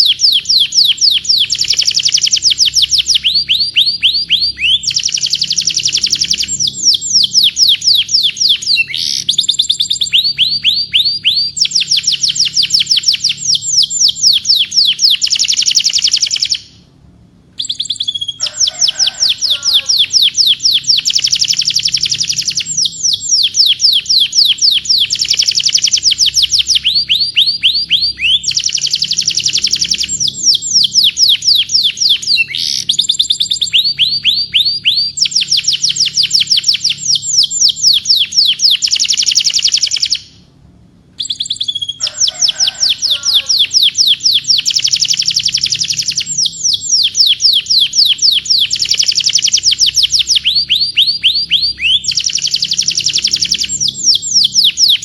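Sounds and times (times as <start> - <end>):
canary singing trills: 0.0 - 16.9, 17.6 - 40.5, 41.2 - 55.0.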